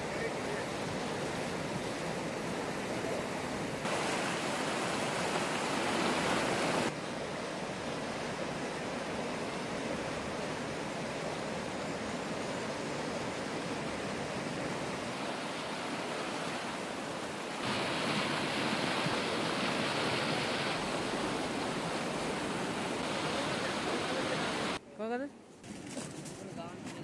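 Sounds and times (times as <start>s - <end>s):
churning canal water: 0.0s - 24.8s.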